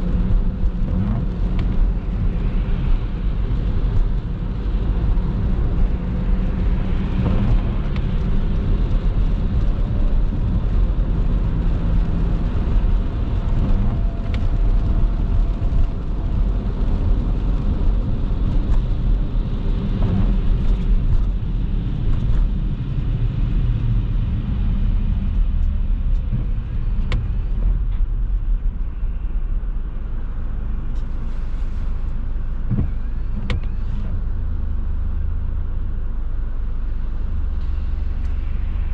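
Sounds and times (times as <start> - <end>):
car driving on wet road: 0.0 - 38.9.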